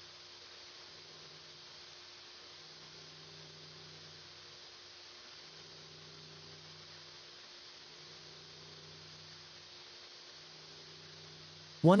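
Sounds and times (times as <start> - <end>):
machine hum and hiss: 0.0 - 12.0.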